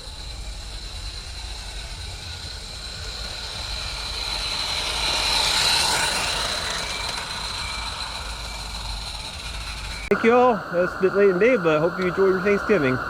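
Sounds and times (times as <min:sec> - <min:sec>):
hissing steam exhaust: 0:00.0 - 0:13.0
steady low rumble: 0:00.0 - 0:13.0.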